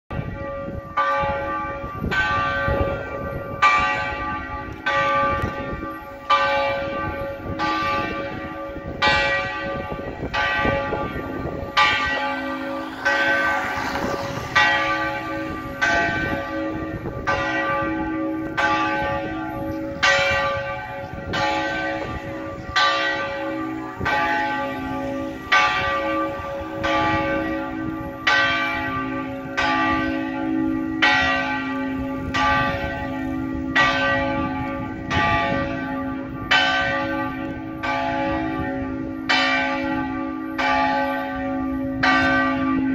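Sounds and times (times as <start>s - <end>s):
church bell striking: 0.1s - 42.9s.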